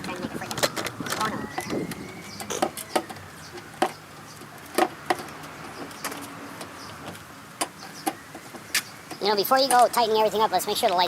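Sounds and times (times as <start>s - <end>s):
hand tools clicking and knocking: 0.0s - 10.0s.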